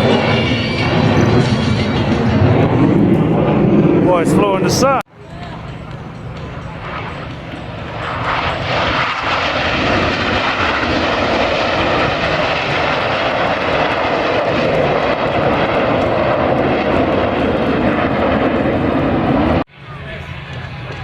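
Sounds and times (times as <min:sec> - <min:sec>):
airplane passing low overhead: 0:00.0 - 0:21.0.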